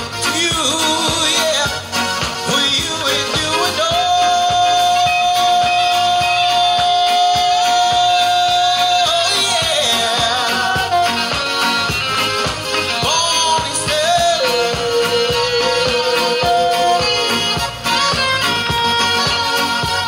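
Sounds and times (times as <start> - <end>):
man singing: 0.0 - 11.9, 12.7 - 20.0
drum kit: 0.0 - 20.0.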